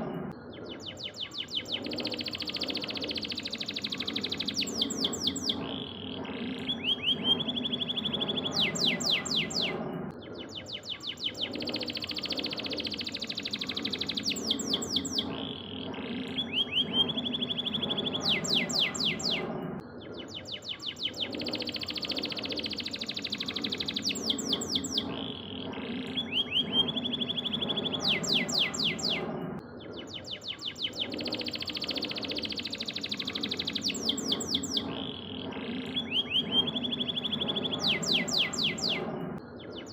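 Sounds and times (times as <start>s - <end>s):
canary singing trills: 0.5s - 39.9s.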